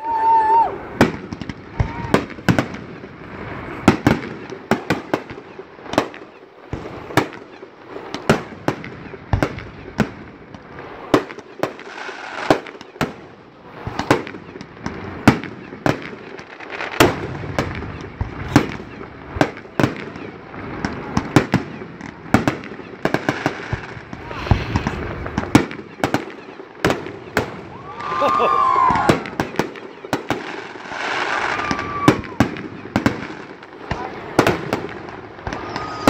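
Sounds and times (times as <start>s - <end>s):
fireworks bangs: 0.0s - 36.0s
noisy haze: 5.3s - 36.0s.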